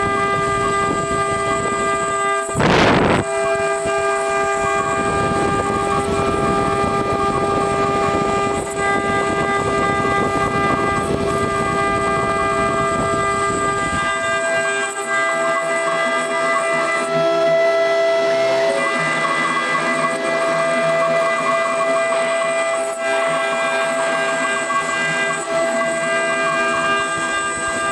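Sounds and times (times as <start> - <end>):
router spindle whining: 0.0 - 27.9.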